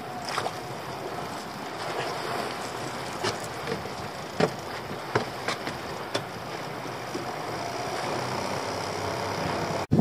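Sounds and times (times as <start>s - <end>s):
water around boat: 0.0s - 10.0s
wind: 0.0s - 10.0s.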